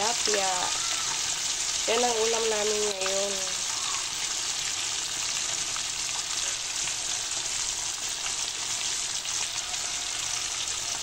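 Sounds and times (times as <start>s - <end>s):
fish deep-frying in sizzling oil: 0.0s - 11.0s.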